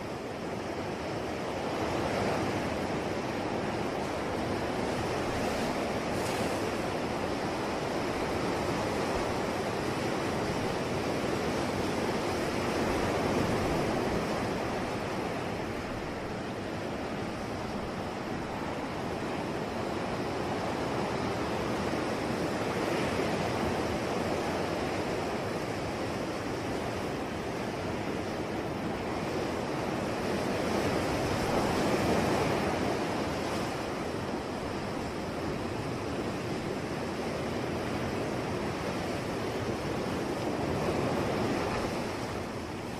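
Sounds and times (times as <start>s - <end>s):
waves breaking on shore: 0.0s - 42.9s.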